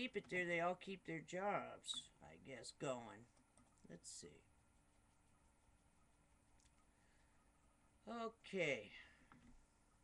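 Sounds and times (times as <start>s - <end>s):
thin steady hum: 0.0s - 10.0s.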